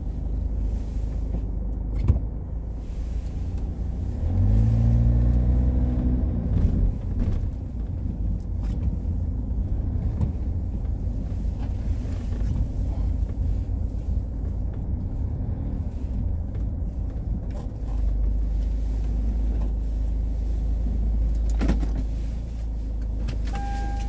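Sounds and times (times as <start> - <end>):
car cabin rumble: 0.0 - 24.0.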